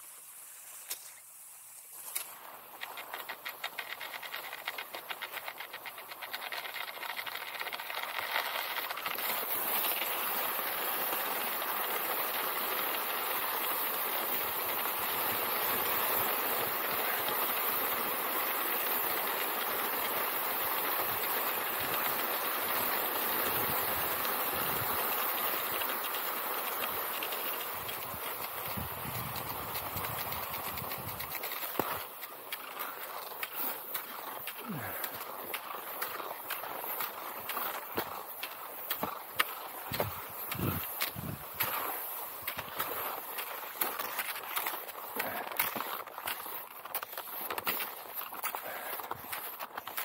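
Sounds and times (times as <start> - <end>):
skis hissing over snow: 0.0 - 50.0.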